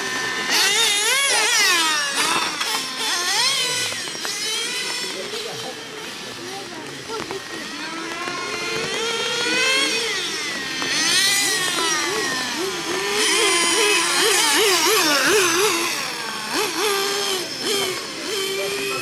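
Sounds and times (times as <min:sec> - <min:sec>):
rc car engines revving: 0:00.0 - 0:19.0.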